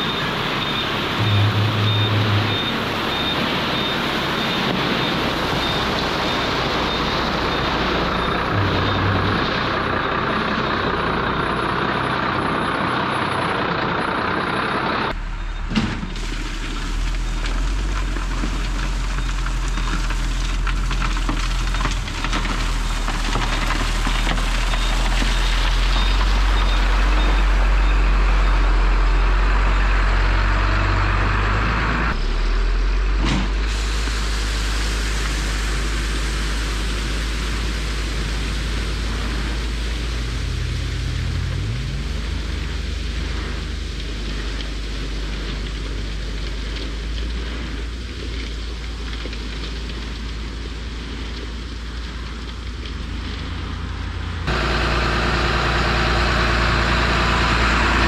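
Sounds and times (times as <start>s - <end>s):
dump truck running: 0.0s - 58.0s.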